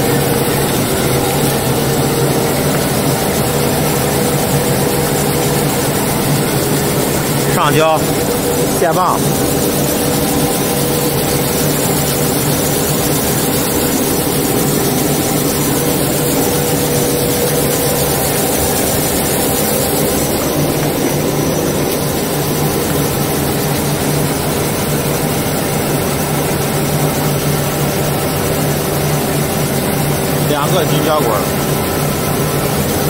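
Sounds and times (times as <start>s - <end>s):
machine mechanical drone: 0.0s - 33.0s.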